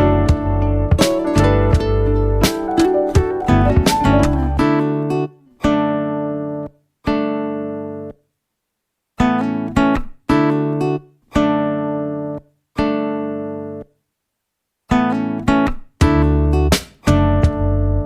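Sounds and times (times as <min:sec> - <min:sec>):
acoustic guitar chords: 0:00.0 - 0:08.2, 0:09.2 - 0:13.9, 0:14.9 - 0:18.0.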